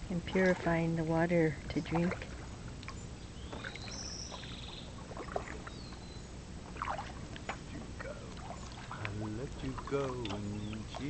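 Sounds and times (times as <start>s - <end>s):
kayak paddle dipping and dripping: 0.1s - 11.0s
small water splashes: 0.2s - 11.0s.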